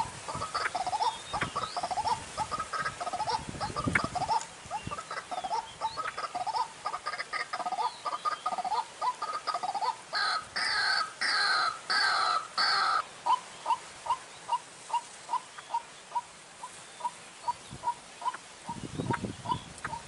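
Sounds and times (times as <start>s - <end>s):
harsh croaking bird calls: 0.0s - 20.0s.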